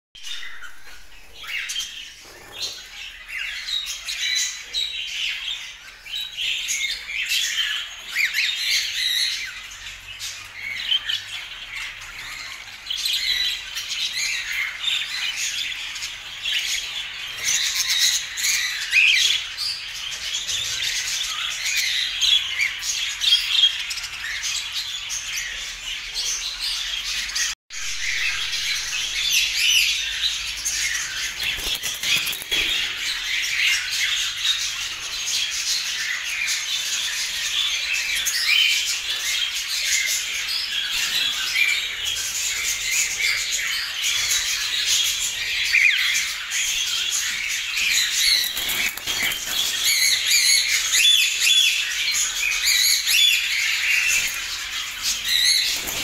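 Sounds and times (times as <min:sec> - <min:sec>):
cockatiels chirping and squawking: 0:00.2 - 0:56.0.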